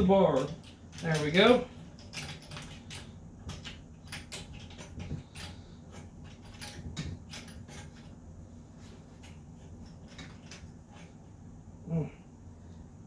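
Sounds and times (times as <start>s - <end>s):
metal threads clicking and creaking: 0.0s - 8.3s, 9.1s - 11.3s.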